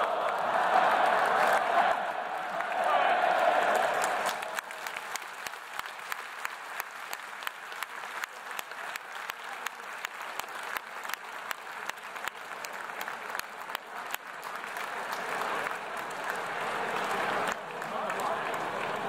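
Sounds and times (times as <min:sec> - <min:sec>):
stadium crowd applauding: 0:00.0 - 0:19.0.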